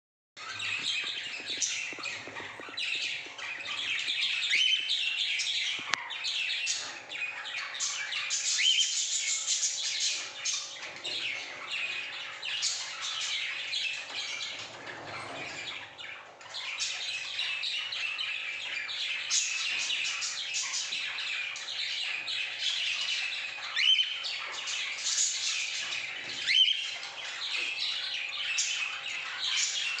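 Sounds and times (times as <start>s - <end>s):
cockatiels chirping and squawking: 0.4s - 30.0s.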